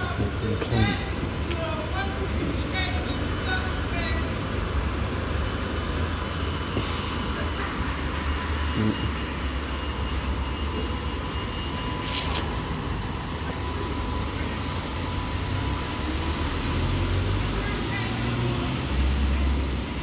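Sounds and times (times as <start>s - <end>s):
traffic on wet street: 0.0s - 20.0s.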